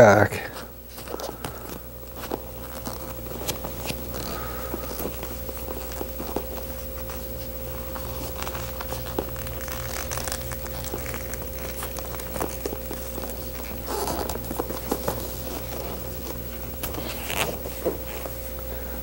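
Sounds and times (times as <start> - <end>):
faint hum: 0.0 - 19.0
seat cover rustling: 0.7 - 19.0.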